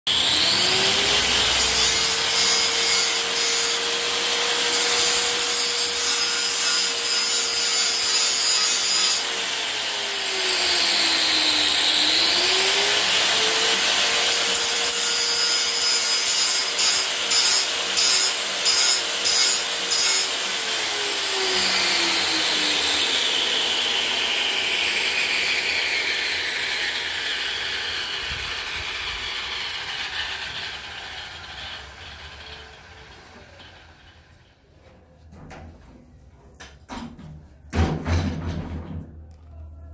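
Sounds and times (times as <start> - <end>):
power tool whining: 0.1 - 6.0, 6.8 - 34.2.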